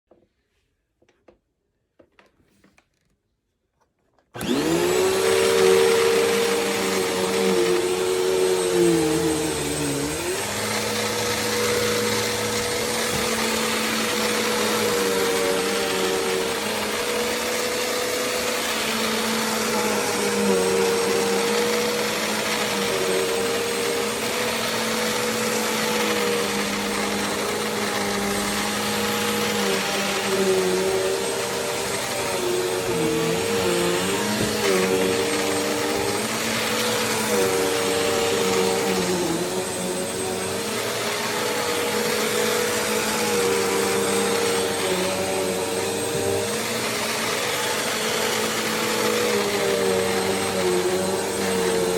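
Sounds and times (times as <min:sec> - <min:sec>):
vacuum cleaner running: 0:04.4 - 0:51.9.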